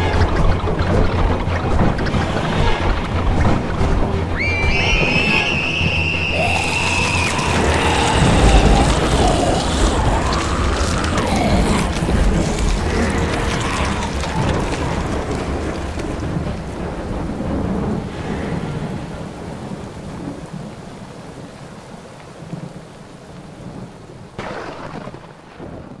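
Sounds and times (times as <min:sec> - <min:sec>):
rain hissing: 0:00.0 - 0:25.8
thunder rumbling: 0:00.0 - 0:26.0.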